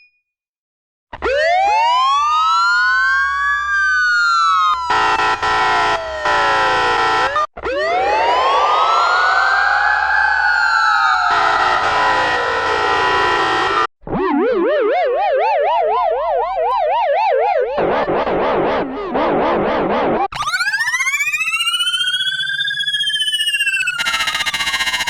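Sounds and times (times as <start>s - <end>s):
fire truck siren wailing: 1.4s - 17.1s, 20.3s - 25.0s.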